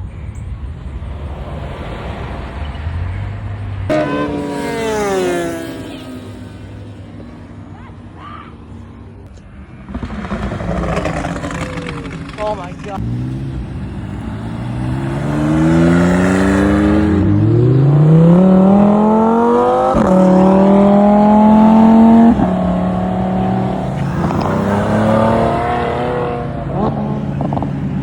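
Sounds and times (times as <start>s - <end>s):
car engine accelerating: 0.0s - 7.5s, 8.8s - 28.0s.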